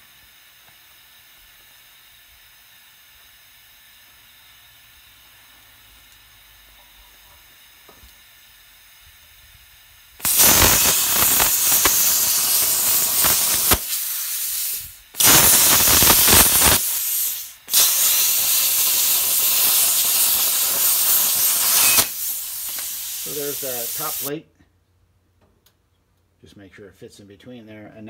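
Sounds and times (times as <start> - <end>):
plasma cutter hissing: 0.1 - 24.3.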